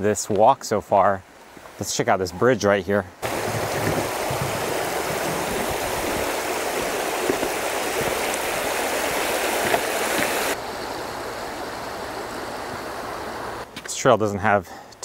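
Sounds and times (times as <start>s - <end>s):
stream water rushing: 0.0s - 13.7s.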